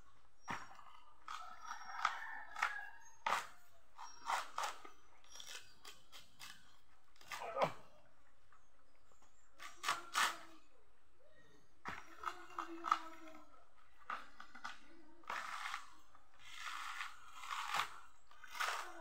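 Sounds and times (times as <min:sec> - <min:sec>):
coconut husk tearing: 0:00.4 - 0:07.9, 0:09.6 - 0:10.6, 0:11.9 - 0:19.0.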